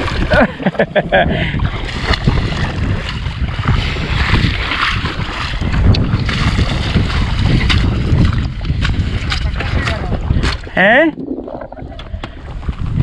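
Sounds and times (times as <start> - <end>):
water lapping and splashing: 0.0 - 13.0
wind buffeting microphone: 0.0 - 13.0.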